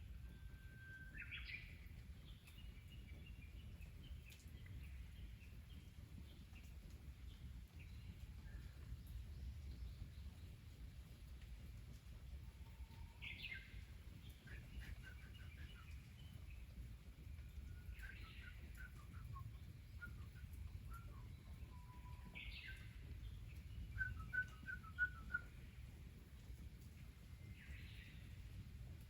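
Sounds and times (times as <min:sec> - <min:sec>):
songbird singing: 0:00.0 - 0:26.0, 0:26.9 - 0:28.4
faint low rumble: 0:00.0 - 0:29.0.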